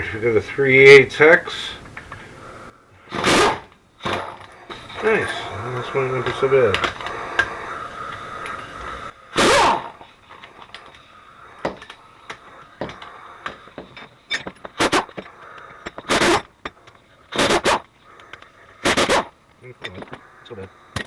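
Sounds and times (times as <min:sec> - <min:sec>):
loud bursts of screws loosening: 0:01.8 - 0:21.0.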